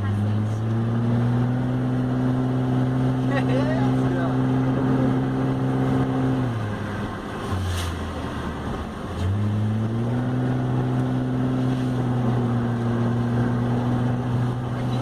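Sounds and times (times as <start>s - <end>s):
car engine while driving: 0.0s - 15.0s.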